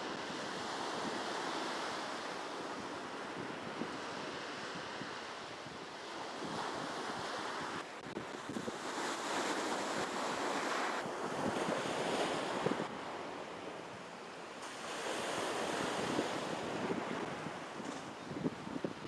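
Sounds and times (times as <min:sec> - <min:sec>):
wind gusting on microphone: 0:00.0 - 0:14.1, 0:14.8 - 0:19.0
waves washing and splashing: 0:00.0 - 0:18.0.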